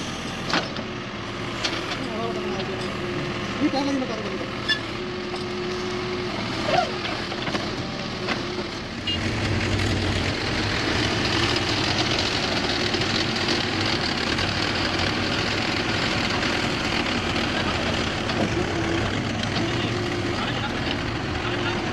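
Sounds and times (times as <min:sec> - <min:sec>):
diesel engines running: 0:00.0 - 0:21.9.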